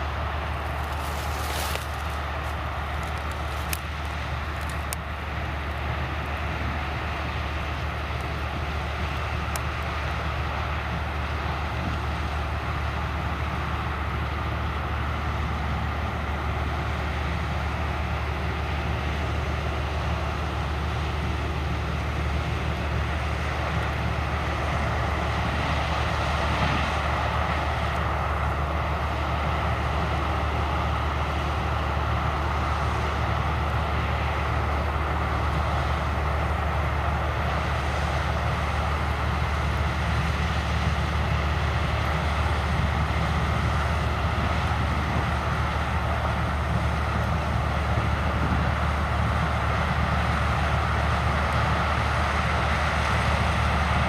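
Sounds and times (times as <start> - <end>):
diesel farm machinery running: 0.0 - 54.0.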